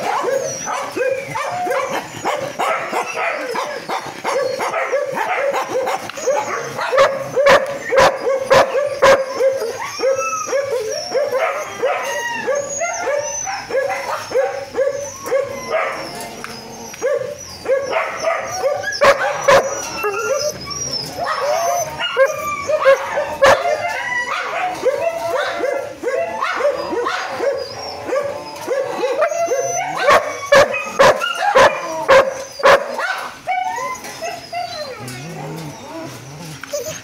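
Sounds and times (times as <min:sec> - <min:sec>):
dog whining and yipping: 0:00.0 - 0:37.0.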